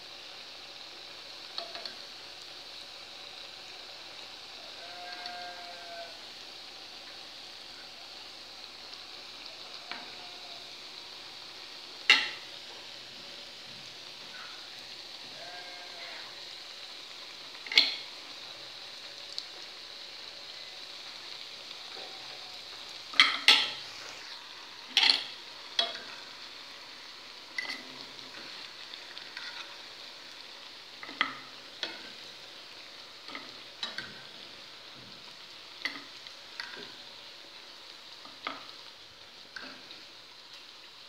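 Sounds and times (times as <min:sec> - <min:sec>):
food frying in hot oil: 0:00.0 - 0:41.0.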